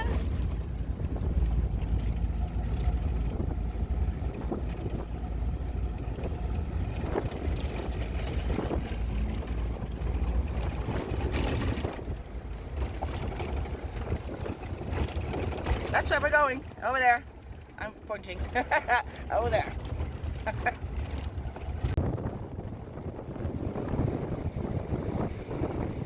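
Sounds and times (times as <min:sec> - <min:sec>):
knocks and rattles: 0:00.0 - 0:22.1
car engine and tyres rumbling: 0:00.0 - 0:26.0.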